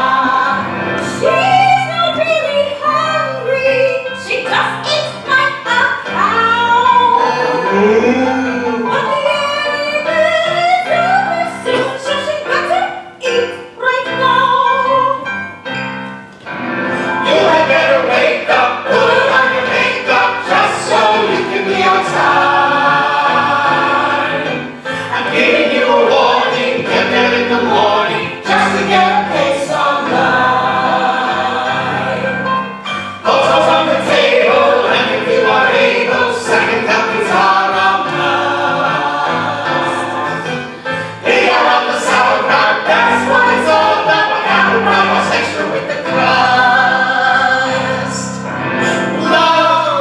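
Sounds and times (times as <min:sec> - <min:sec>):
group singing: 0:00.0 - 0:03.2, 0:04.3 - 0:12.3, 0:16.9 - 0:50.0
instrumental accompaniment: 0:00.0 - 0:50.0.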